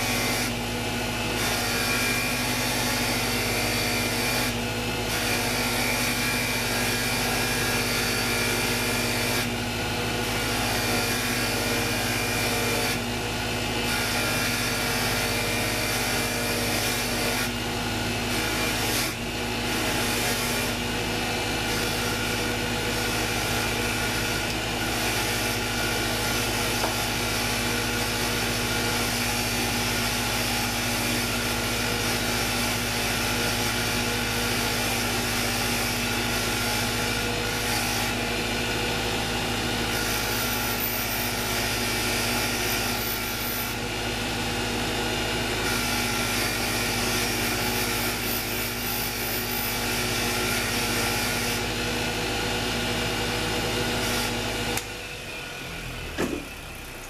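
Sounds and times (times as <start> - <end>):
power tool motor hum: 0.0 - 57.0.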